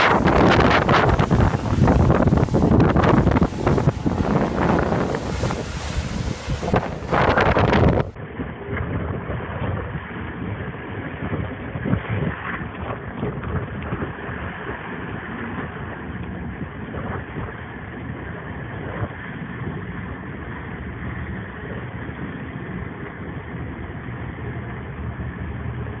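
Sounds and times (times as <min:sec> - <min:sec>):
boat engine running: 0:00.0 - 0:26.0
rushing water: 0:00.0 - 0:26.0
wind: 0:00.0 - 0:26.0.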